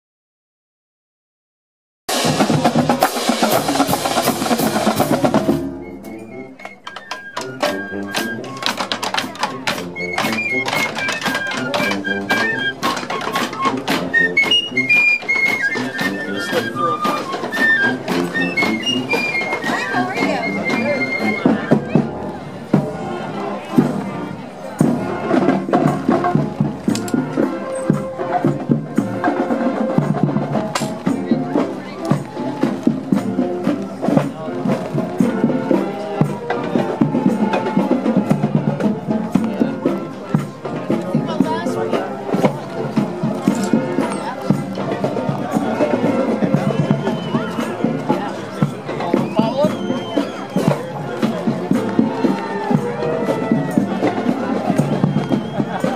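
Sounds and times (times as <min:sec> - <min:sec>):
marching band drums: 0:02.1 - 0:55.9.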